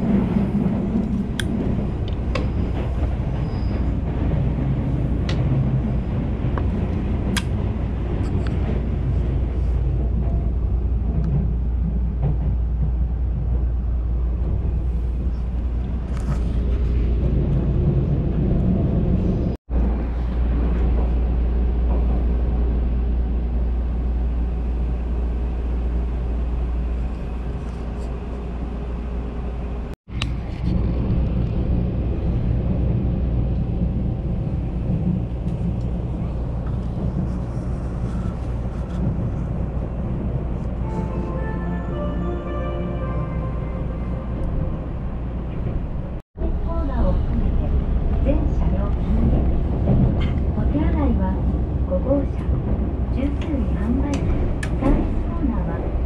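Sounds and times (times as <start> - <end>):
train rumbling inside cabin: 0.0 - 56.0.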